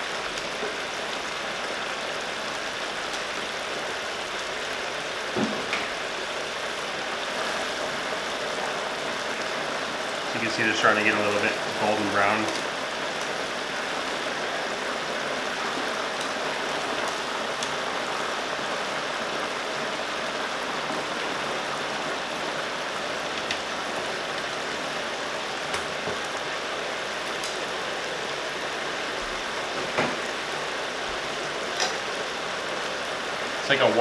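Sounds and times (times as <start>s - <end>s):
hot oil bubbling and sizzling: 0.0s - 34.0s.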